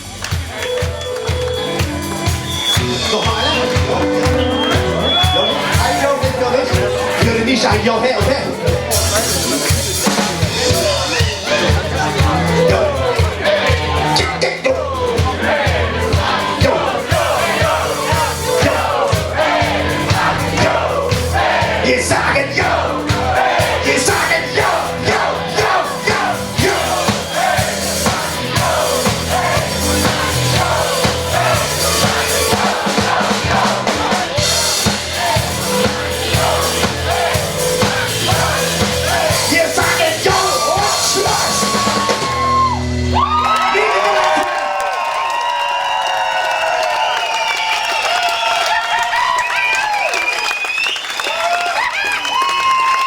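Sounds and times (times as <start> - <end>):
live band music: 0.0 - 43.8
crowd singing and shouting: 0.0 - 43.9.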